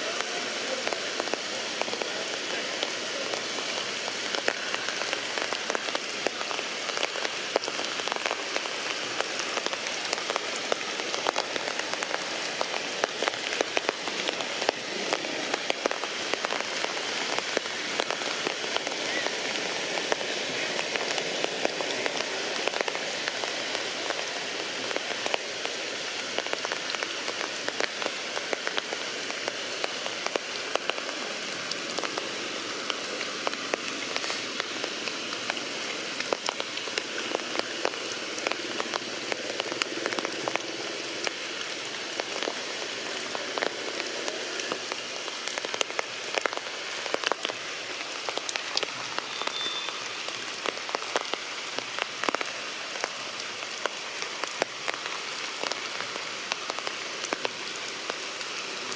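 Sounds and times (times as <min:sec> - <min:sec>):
heavy rain: 0:00.0 - 0:58.9
raindrops spattering close by: 0:00.0 - 0:58.9.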